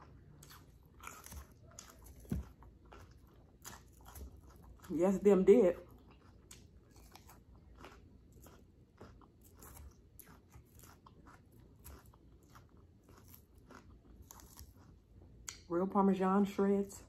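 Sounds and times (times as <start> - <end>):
crunching and chewing salad: 0.0 - 15.7.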